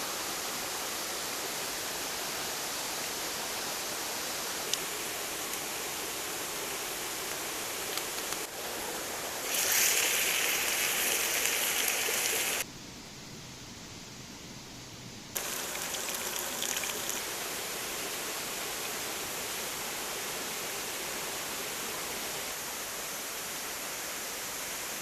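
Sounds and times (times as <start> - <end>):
running water rushing: 0.0 - 12.7, 15.4 - 25.0.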